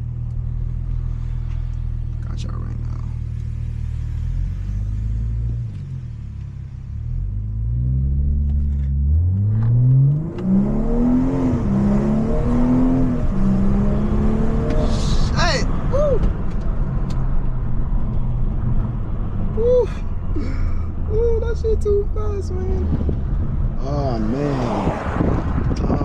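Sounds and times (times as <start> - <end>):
car engine accelerating hard: 0.3 - 26.0.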